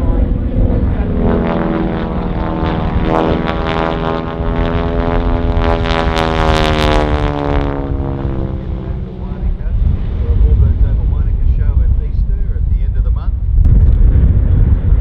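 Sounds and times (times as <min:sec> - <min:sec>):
radial aircraft engine passing: 0:00.0 - 0:13.5.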